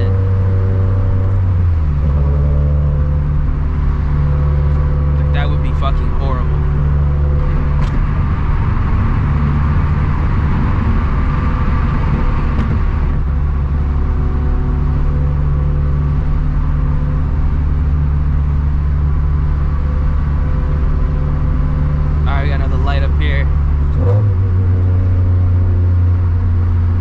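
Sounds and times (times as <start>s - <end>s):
car engine droning: 0.0s - 27.0s.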